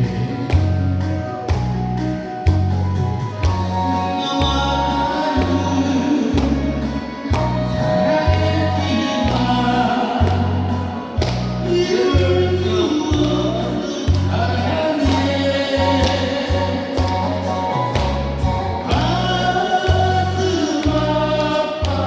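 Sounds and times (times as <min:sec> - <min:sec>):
person singing pop song: 0:00.0 - 0:02.6, 0:03.4 - 0:22.0
steady bass line: 0:00.0 - 0:22.0.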